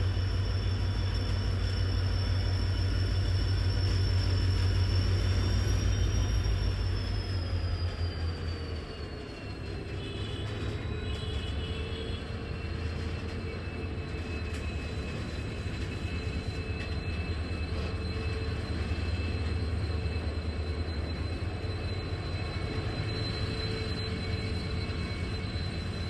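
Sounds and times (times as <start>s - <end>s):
diesel locomotive engine rumbling: 0.0s - 26.0s.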